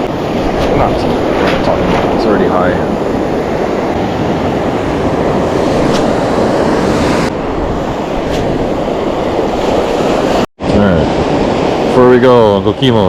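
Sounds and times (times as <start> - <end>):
wind buffeting microphone: 0.0 - 12.4
ocean surf rushing: 0.0 - 13.0.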